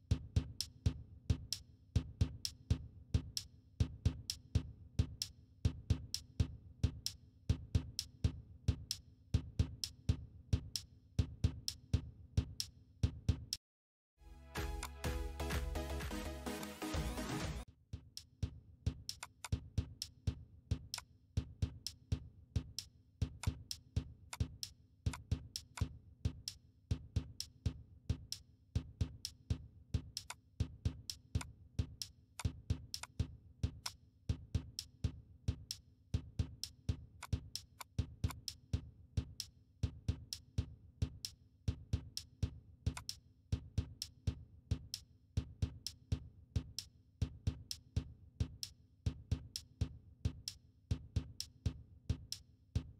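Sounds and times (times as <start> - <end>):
drum machine beat: 0.0 - 13.6, 14.4 - 52.9.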